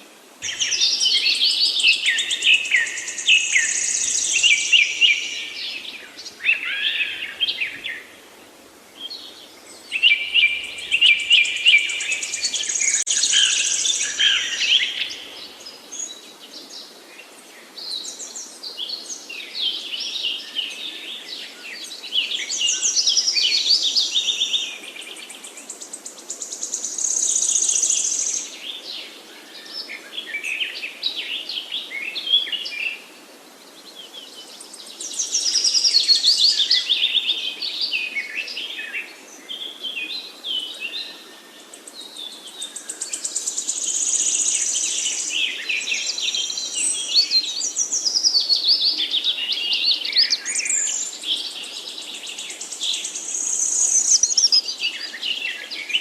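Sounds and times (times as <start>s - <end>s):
songbirds singing trills: 0.4s - 8.2s, 8.9s - 33.0s, 33.7s - 56.0s.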